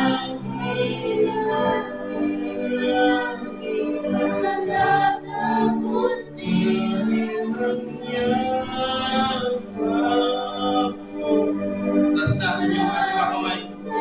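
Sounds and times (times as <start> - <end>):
singers singing together: 0.0 - 14.0.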